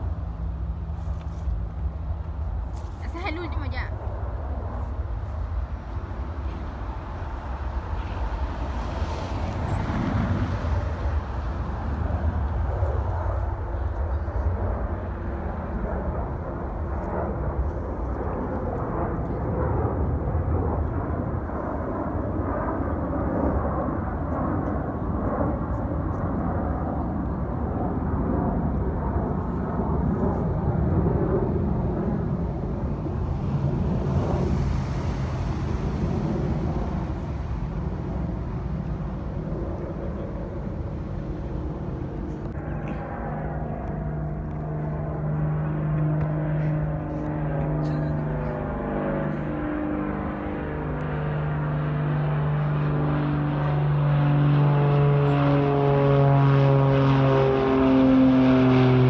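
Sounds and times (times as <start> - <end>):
distant jet engines rushing: 0.0 - 59.0.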